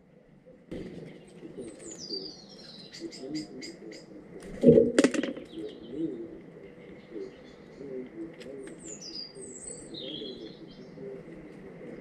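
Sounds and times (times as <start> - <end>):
small birds singing: 0.0 - 12.0.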